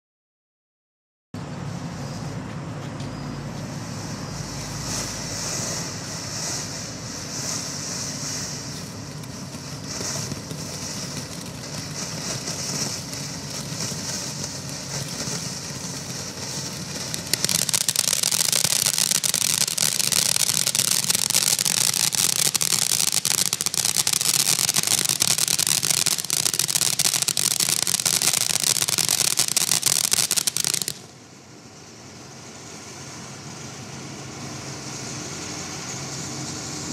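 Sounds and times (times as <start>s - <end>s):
firework dense crackling: 3.1s - 36.9s
firework spraying sparks hissing: 3.5s - 36.9s.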